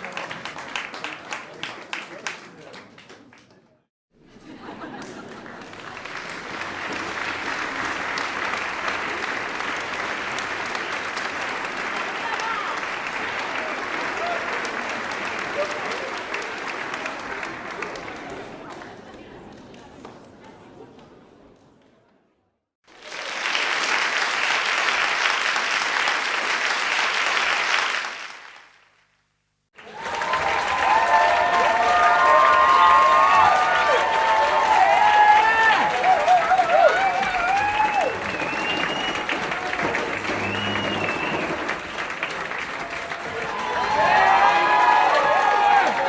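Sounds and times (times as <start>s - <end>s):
crowd applauding: 0.0s - 3.6s, 4.5s - 19.4s, 22.9s - 28.9s, 29.8s - 46.0s.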